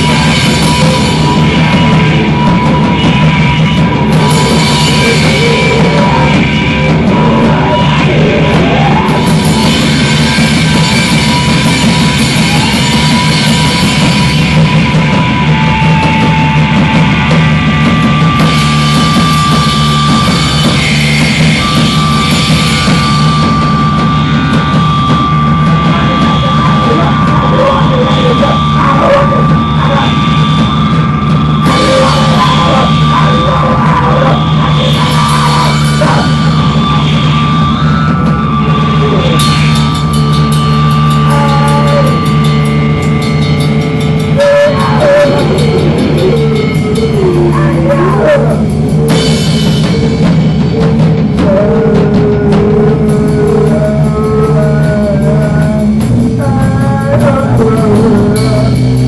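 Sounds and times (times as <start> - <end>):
dense electronic noise: 0.0 - 59.0
drum kit pounding: 0.0 - 59.0
held high tone: 0.0 - 59.0
steady low drone: 0.0 - 59.0.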